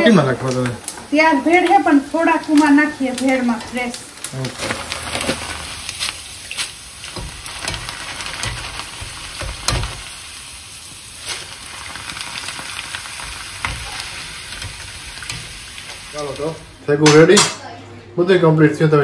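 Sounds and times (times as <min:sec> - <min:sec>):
hot oil sizzling: 0:00.0 - 0:17.4.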